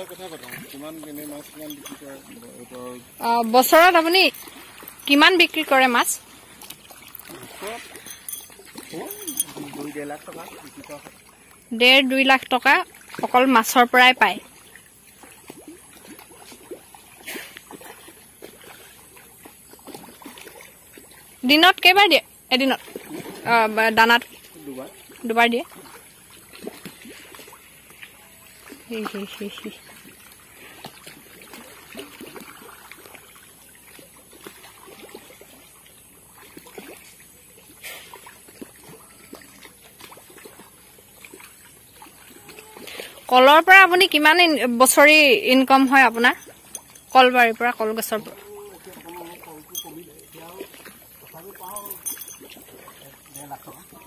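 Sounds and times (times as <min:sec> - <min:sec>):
small water splashes: 0:00.0 - 0:54.0.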